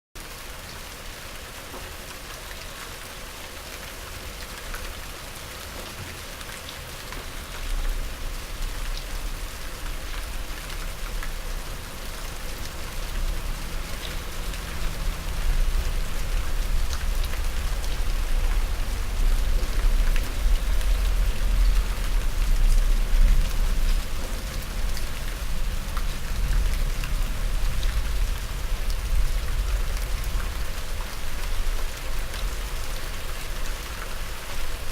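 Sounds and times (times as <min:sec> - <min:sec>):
rain falling on surfaces: 0:00.2 - 0:34.9.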